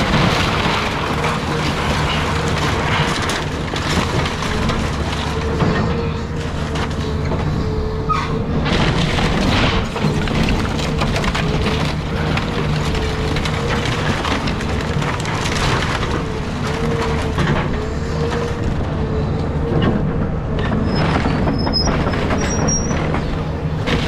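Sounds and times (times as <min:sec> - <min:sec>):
excavator whining under load: 0:00.0 - 0:24.0
wood cracking and splintering: 0:00.0 - 0:24.0.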